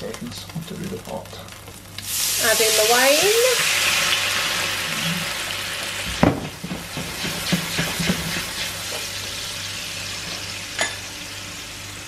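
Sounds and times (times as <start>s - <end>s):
wine sizzling in hot pan: 0.0s - 12.0s.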